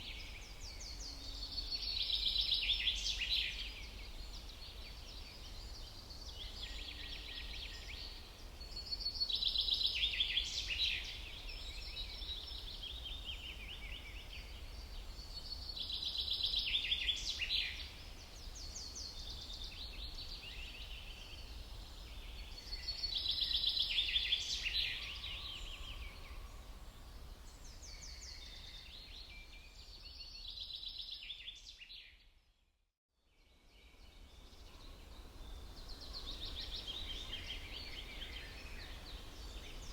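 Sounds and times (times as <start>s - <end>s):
songbirds chirping and trilling: 0.0s - 32.3s, 33.7s - 39.9s.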